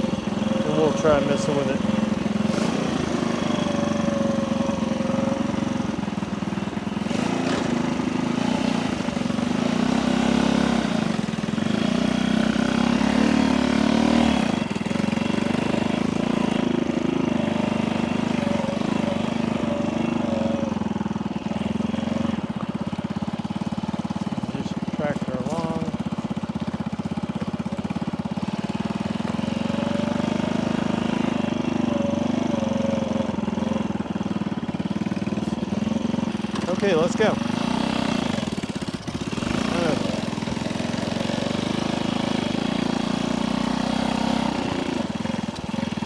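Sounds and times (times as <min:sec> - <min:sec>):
motorcycle engine idling: 0:00.0 - 0:46.0.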